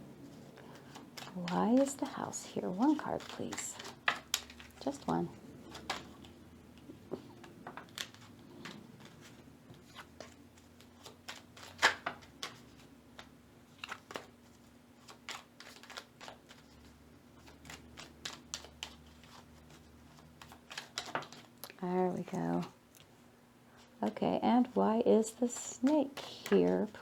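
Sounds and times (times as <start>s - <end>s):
cards being shuffled: 0.2s - 22.3s, 25.3s - 27.0s.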